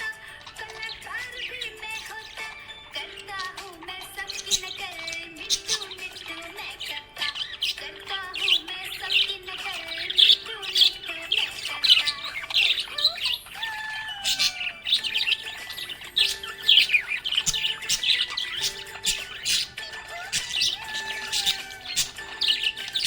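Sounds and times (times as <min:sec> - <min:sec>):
budgerigar chirping and warbling: 0:00.0 - 0:23.0.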